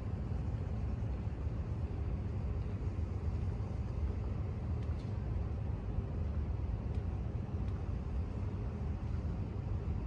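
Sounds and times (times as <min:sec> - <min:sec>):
low rumble of city ambience: 0:00.0 - 0:10.0.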